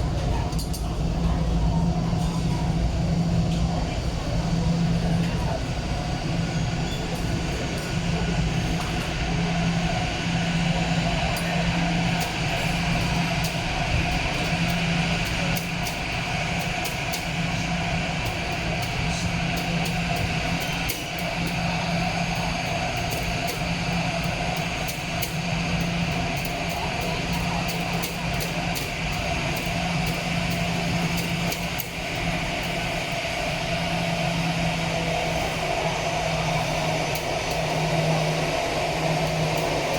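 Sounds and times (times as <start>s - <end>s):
mechanical drone with whine: 0.0s - 39.9s.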